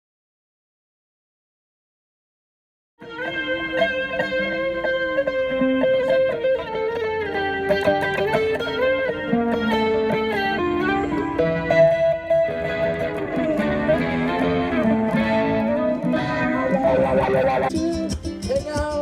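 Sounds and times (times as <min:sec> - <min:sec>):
live band with melodic guitar: 0:03.0 - 0:19.0.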